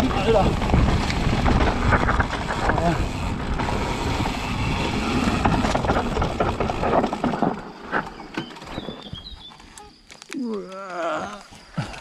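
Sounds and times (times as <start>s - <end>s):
bike clattering and ticking: 0.0s - 9.8s
bike tyres on dirt trail: 0.0s - 12.0s.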